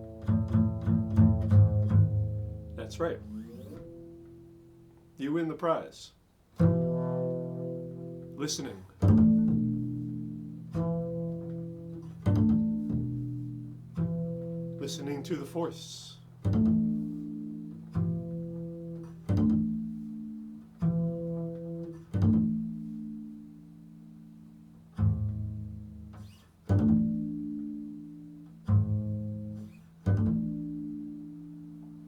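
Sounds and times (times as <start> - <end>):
low plucked string notes: 0.0 - 5.5, 6.6 - 32.0.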